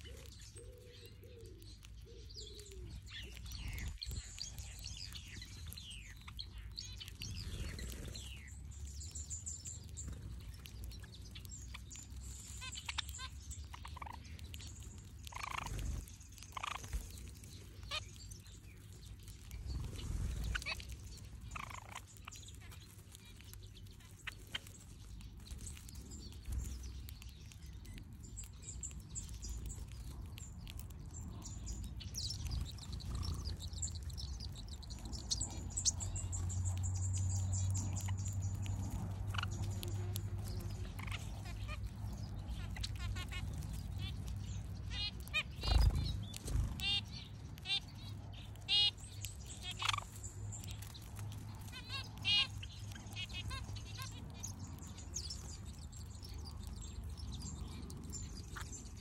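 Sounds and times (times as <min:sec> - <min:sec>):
finches chirping: 0:00.0 - 0:59.0
steady low rumble: 0:01.8 - 0:59.0.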